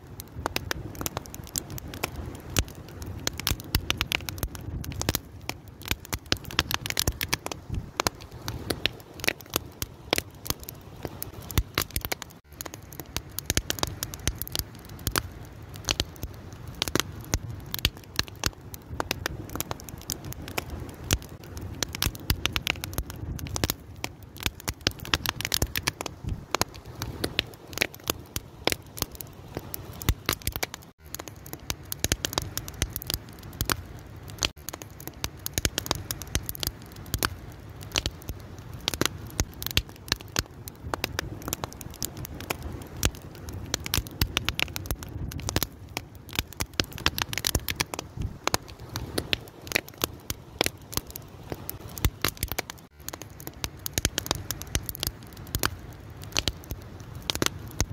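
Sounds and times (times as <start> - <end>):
low rumble of burning logs: 0.0 - 57.9
wood fire crackling: 0.0 - 57.9.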